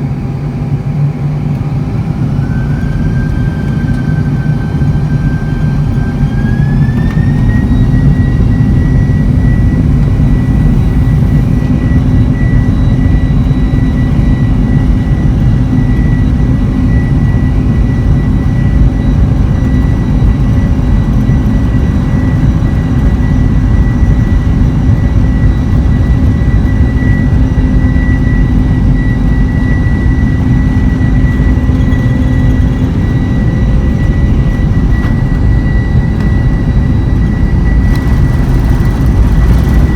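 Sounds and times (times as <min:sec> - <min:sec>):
high jet engine whine: 0:00.0 - 0:39.9
jet engine rumble: 0:00.0 - 0:39.9.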